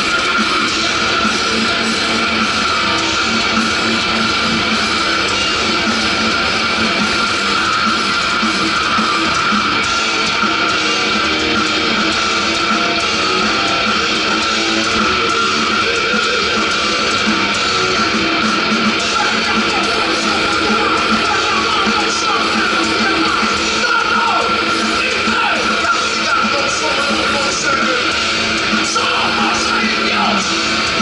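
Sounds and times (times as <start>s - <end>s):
bass guitar: 0.0s - 31.0s
distorted electric guitar: 0.0s - 31.0s
drums: 0.0s - 31.0s.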